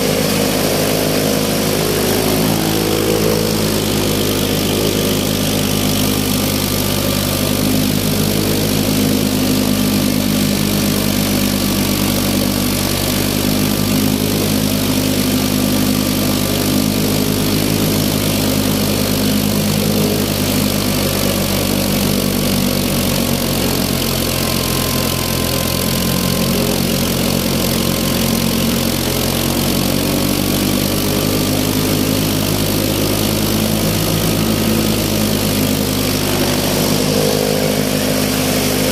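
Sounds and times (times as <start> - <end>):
chaff cutter running: 0.0 - 38.9
tractor diesel engine running: 0.0 - 38.9.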